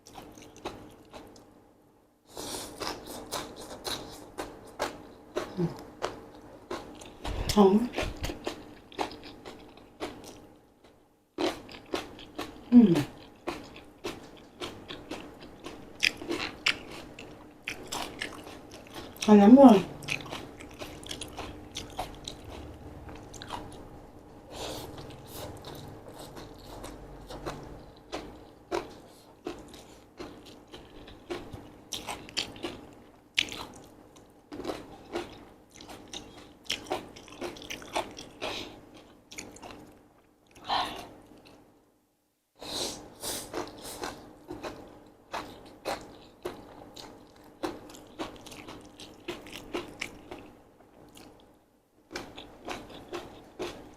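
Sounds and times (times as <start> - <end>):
wet chewing and smacking: 2.8 - 19.3, 20.0 - 23.9, 24.9 - 41.6, 43.6 - 51.5, 52.1 - 53.9.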